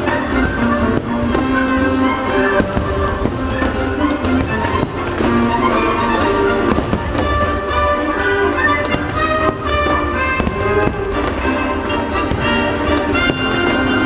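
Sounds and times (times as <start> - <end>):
fireworks popping and bursting: 0.0 - 14.0
orchestral music with brass: 0.0 - 14.0.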